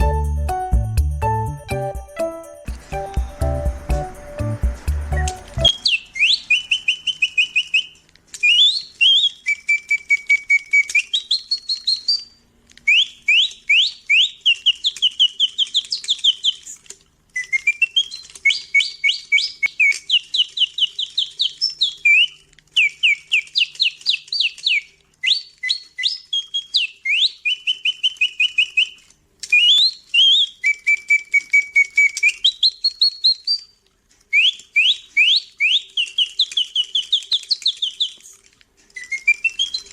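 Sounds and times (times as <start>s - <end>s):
mechanical bird whistling: 2.6s - 39.9s.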